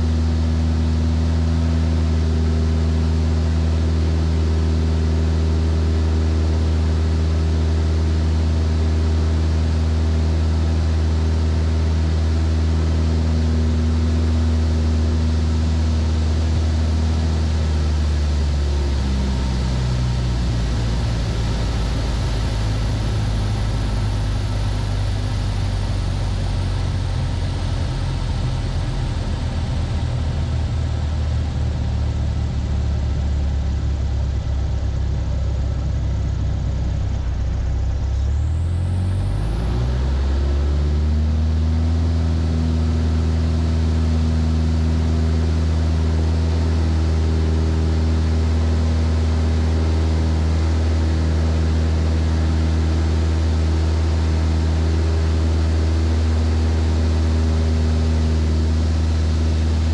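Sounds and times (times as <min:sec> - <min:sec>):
propeller plane engine: 0:00.0 - 0:59.9.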